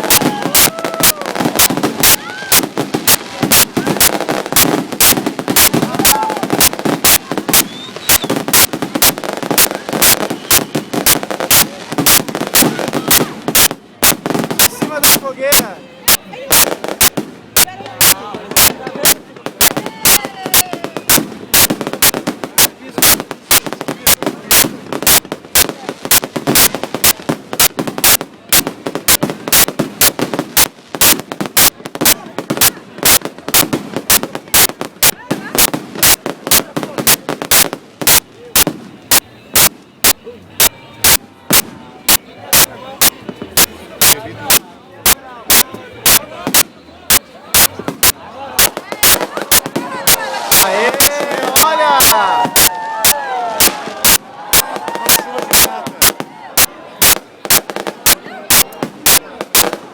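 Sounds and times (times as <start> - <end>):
crowd murmuring: 0.0 - 59.9
fireworks banging: 0.0 - 59.9.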